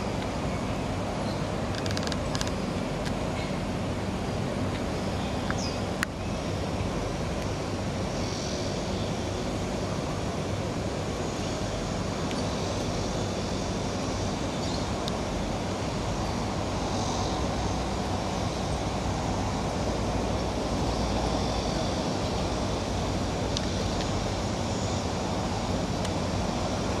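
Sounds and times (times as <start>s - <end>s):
distant rail and road traffic: 0.0s - 27.0s.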